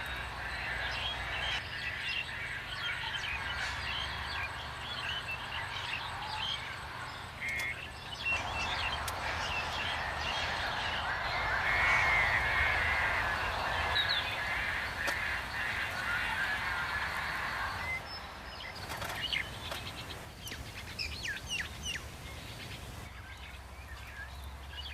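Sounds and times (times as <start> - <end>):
loud long bird call: 0.0 - 24.9
wild birds chirping: 0.0 - 24.9.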